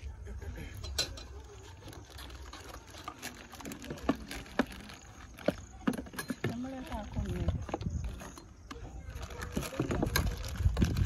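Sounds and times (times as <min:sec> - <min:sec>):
plastic plates and utensils clattering: 0:00.6 - 0:11.0.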